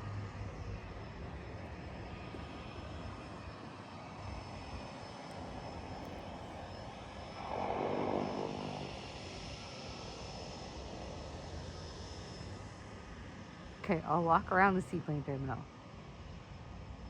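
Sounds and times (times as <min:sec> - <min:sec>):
propeller engine running: 0:00.1 - 0:15.6.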